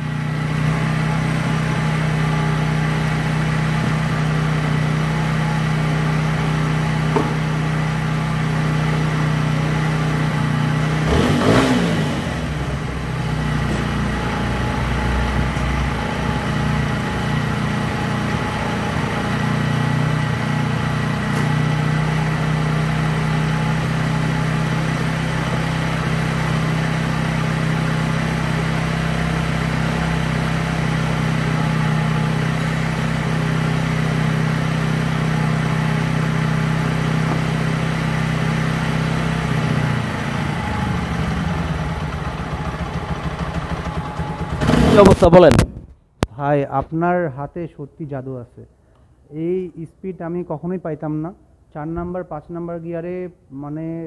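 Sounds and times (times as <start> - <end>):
motorcycle engine idling: 0.0 - 45.8.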